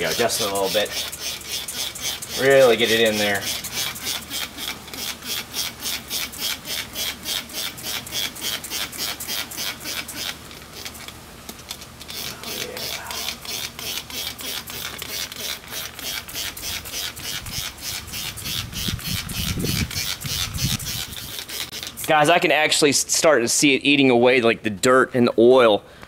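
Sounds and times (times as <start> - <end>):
trigger spray bottle spraying: 0.1 - 22.2.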